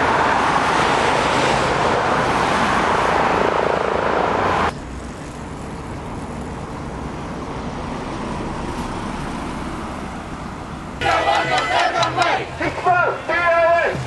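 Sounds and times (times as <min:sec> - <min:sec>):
loud traffic-like roar: 0:00.0 - 0:14.0.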